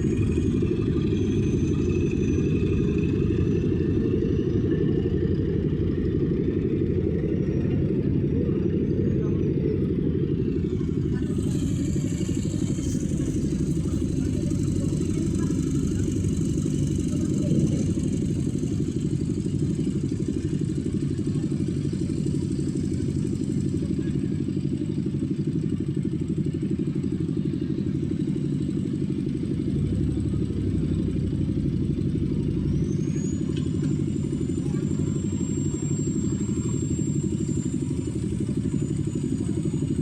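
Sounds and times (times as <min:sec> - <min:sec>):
heavy machine engine running: 0:00.0 - 0:40.0.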